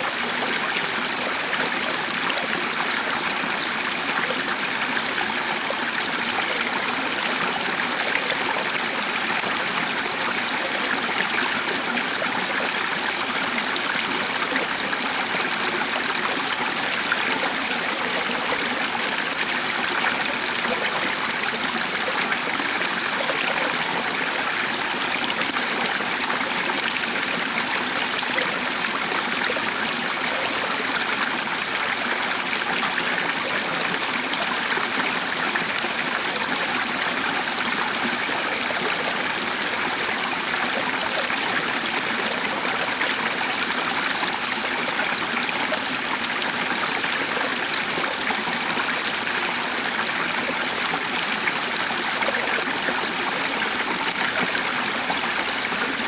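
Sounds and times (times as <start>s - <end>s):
stream flowing water: 0.0s - 56.0s.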